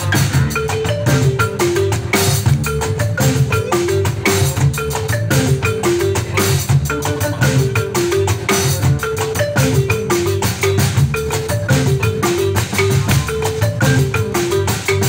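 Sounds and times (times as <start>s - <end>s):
drum kit: 0.0s - 15.0s
marimba melody: 0.0s - 15.0s.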